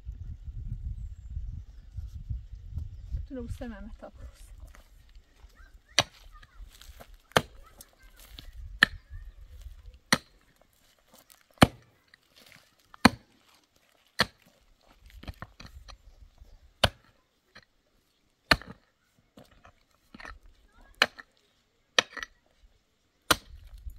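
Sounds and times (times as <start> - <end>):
mattock striking stony soil: 3.3 - 17.8, 18.4 - 23.9.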